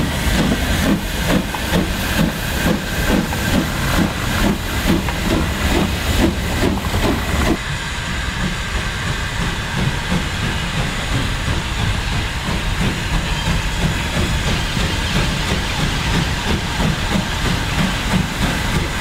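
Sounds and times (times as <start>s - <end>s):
steam hissing: 0.0s - 19.0s
steam locomotive exhaust beats: 0.0s - 19.0s
wheels rumbling on rail: 0.0s - 19.0s.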